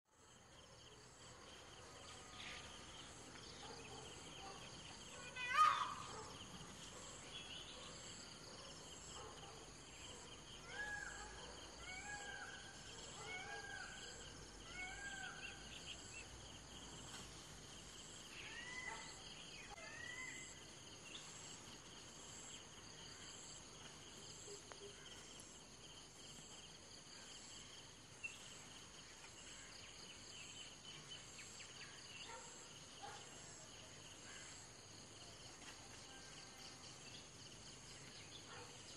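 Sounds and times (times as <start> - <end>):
insects chirring: 0.2 - 38.9.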